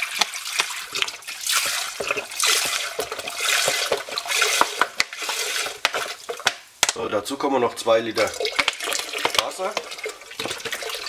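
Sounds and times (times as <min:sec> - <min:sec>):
liquid pouring into metal pot: 0:00.0 - 0:06.5, 0:08.1 - 0:11.0.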